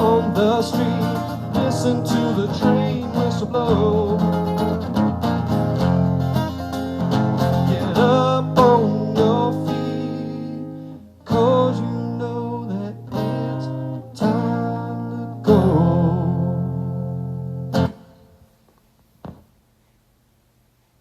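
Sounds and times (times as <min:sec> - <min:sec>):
acoustic guitar strummed chords: 0:00.0 - 0:18.5.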